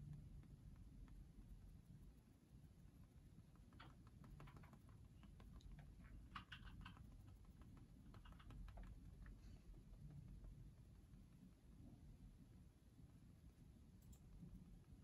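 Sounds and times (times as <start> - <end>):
faint soft clicks and taps: 0.0 - 15.0.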